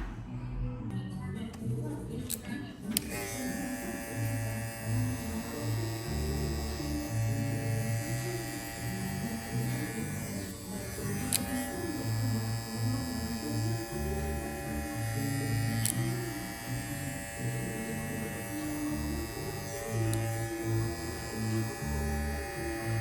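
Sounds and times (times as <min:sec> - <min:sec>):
hair clipper buzzing: 0:03.0 - 0:23.0.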